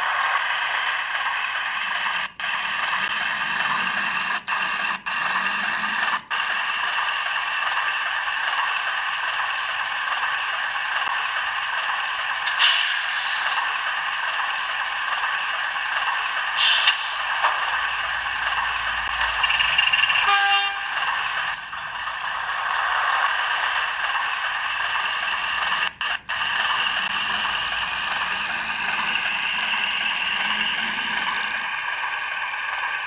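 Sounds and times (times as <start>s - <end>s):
model train running hum: 0.0s - 33.0s.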